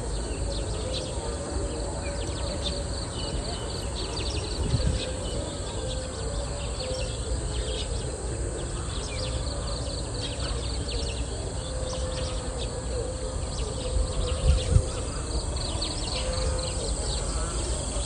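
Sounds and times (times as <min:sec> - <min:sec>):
steady low background noise: 0:00.0 - 0:18.0.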